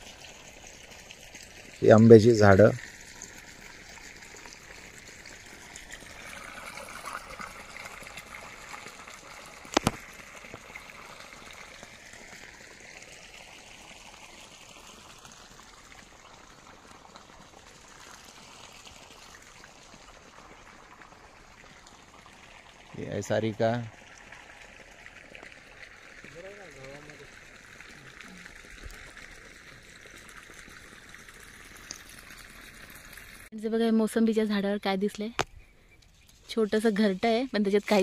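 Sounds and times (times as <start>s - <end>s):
water running from a pipe: 0.0s - 33.5s, 36.3s - 38.0s.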